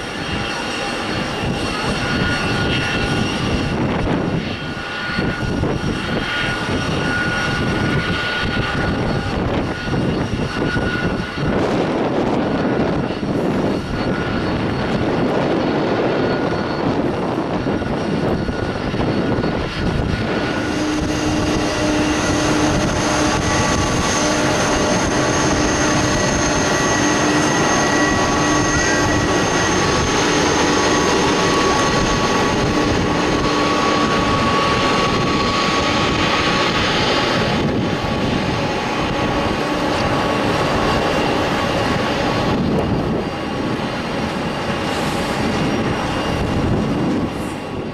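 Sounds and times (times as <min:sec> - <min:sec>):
jet engines running: 0:00.0 - 0:47.9
steady whining tones: 0:00.0 - 0:47.9.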